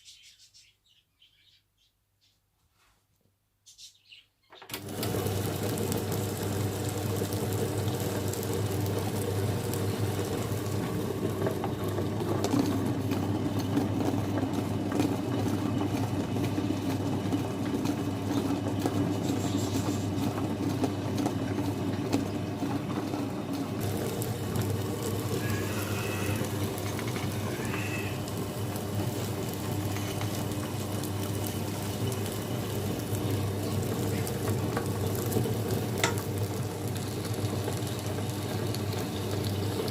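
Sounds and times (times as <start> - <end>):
wet grinder motor humming: 4.7 - 39.9.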